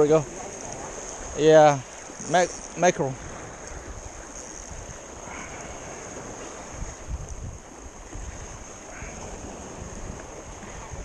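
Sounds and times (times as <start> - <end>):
sea water hissing: 0.0 - 11.0
wind buffeting microphone: 0.0 - 11.0.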